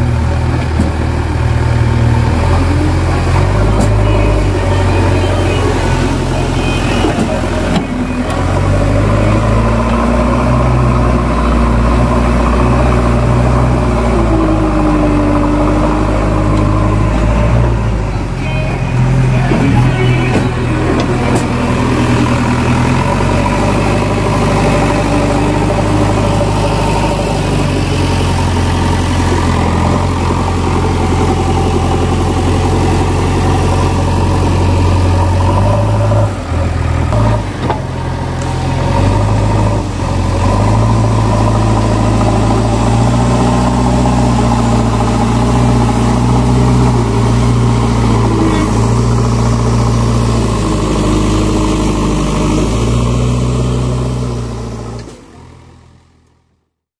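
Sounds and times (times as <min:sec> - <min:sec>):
diesel engine under load: 0:00.0 - 0:56.8.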